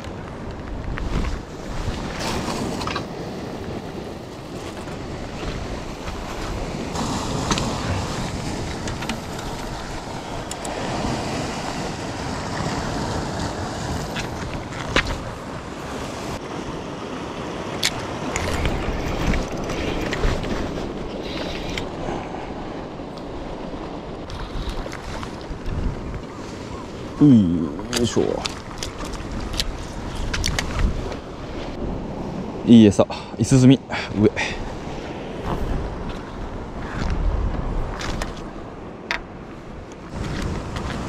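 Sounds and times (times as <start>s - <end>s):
wind buffeting microphone: 0.0s - 32.7s, 33.4s - 41.0s
sea surf: 0.0s - 41.0s
wind: 0.0s - 41.0s.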